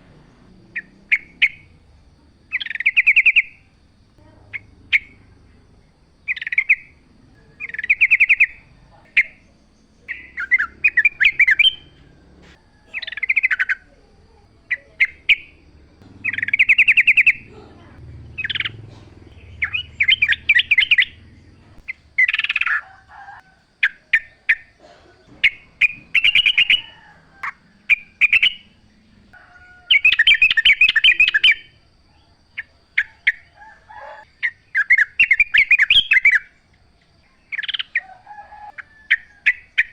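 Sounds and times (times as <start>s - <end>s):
bird singing warbled phrases: 0.0s - 12.3s, 12.9s - 39.9s.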